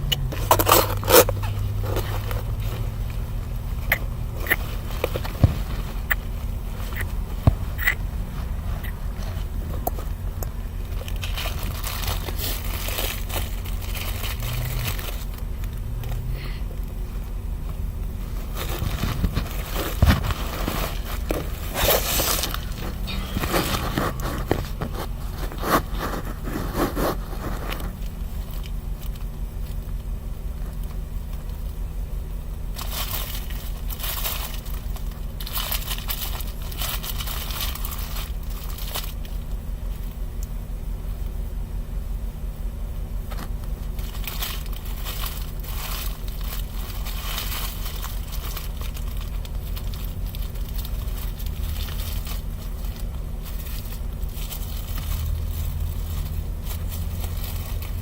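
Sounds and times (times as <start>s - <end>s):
car cabin hum: 0.0s - 58.0s
crinkling handling noise: 0.0s - 58.0s.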